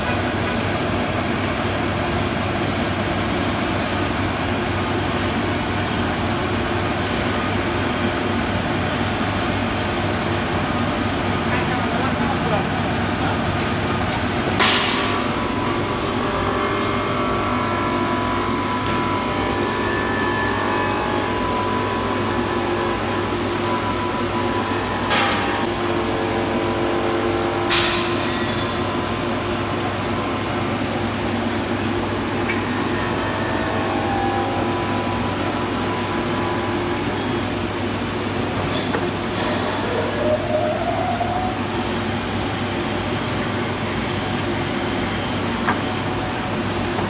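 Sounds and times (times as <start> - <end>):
glass washing machine hum: 0.0 - 47.0.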